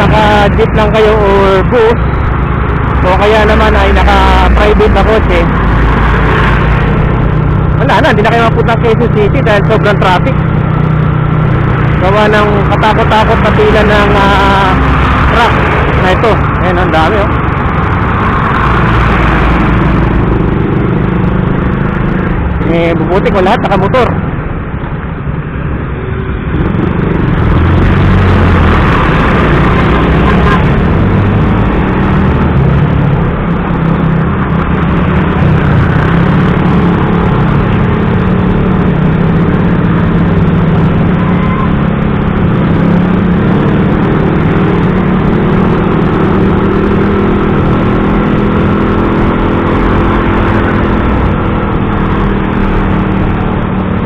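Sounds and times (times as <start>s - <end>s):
motorcycle engine running: 0.0s - 24.0s, 26.6s - 54.0s
heavy truck traffic: 0.0s - 54.0s.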